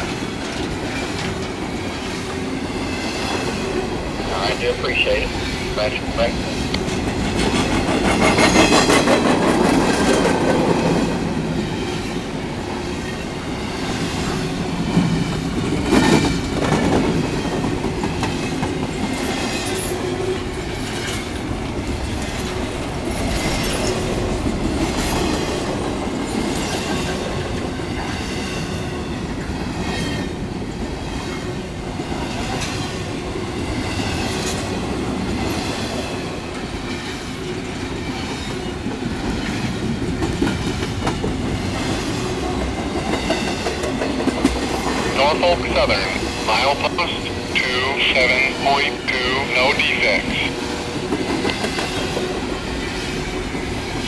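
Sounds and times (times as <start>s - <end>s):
clickety-clack over rail joints: 0.0s - 4.3s, 6.4s - 47.6s, 50.5s - 54.0s
train wheels rumbling on rail: 0.0s - 54.0s.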